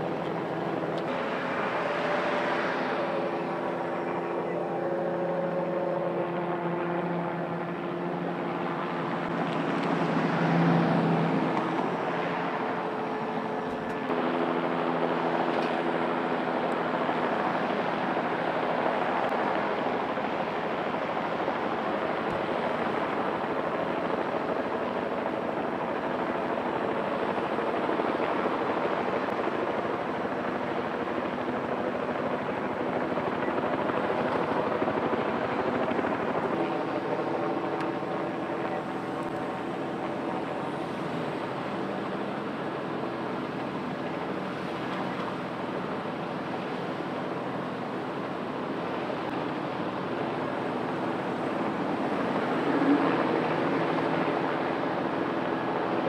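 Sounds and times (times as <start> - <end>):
turbine helicopter running: 0.0 - 56.0.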